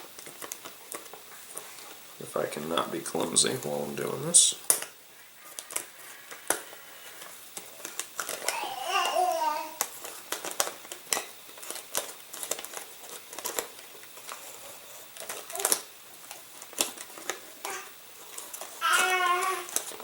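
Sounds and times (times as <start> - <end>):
plastic packing tape crinkling: 0.0 - 20.0.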